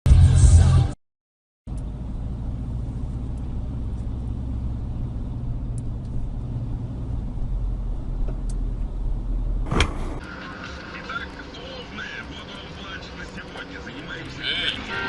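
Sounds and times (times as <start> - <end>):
vehicle engine and road rumble: 1.7 - 15.0.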